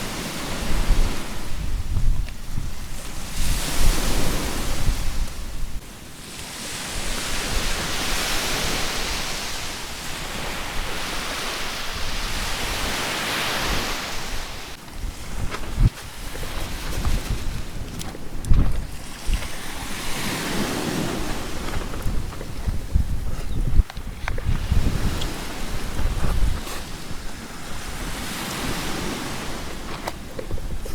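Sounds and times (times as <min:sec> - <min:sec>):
sea waves washing onto beach: 0:00.0 - 0:30.9
wind rumbling on microphone: 0:00.0 - 0:30.9.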